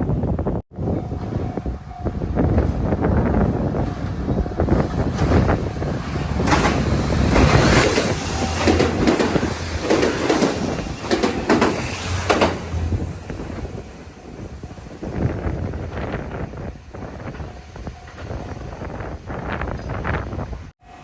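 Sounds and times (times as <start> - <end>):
train rumble: 0.0 - 21.0
train wheels clacking over rails: 2.5 - 20.0.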